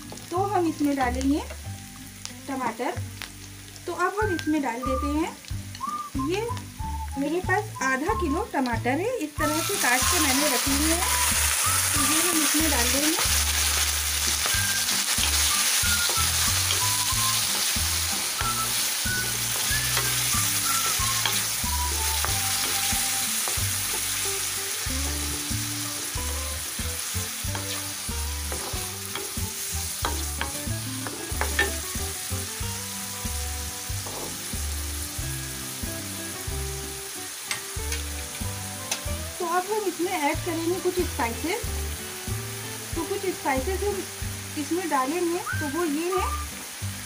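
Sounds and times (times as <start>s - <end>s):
tomatoes sizzling in hot fat: 0.0s - 47.0s.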